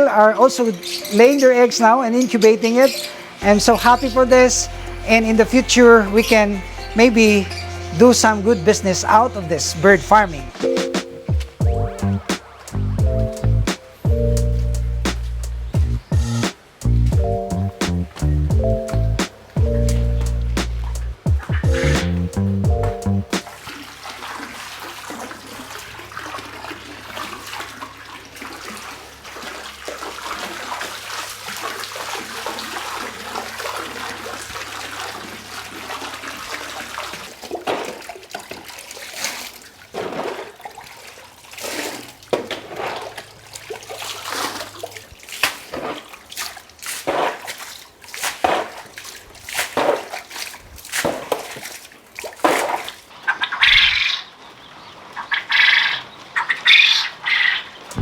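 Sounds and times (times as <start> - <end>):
water running: 0.0 - 53.2
water splashes: 0.0 - 58.0.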